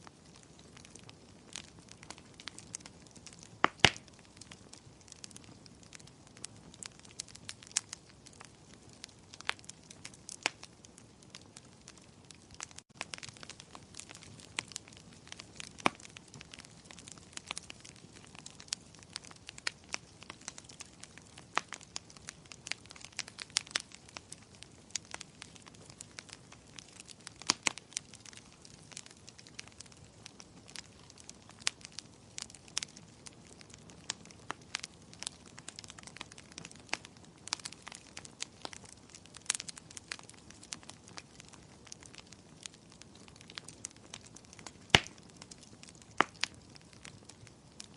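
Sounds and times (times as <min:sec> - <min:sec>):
soft hiss of burning: 0:00.0 - 0:47.9
wood fire crackling and popping: 0:00.0 - 0:47.9.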